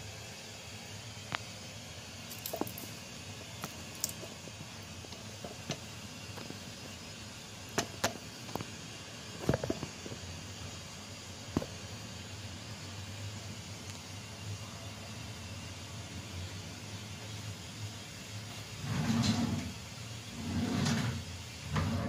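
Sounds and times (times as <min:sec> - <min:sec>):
gas stove burners hissing: 0:00.0 - 0:22.0.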